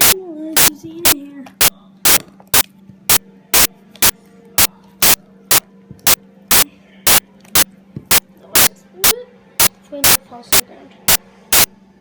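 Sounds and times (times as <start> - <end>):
static crackling bursts: 0.0 - 8.7, 9.6 - 11.7
low electrical hum: 0.0 - 12.0.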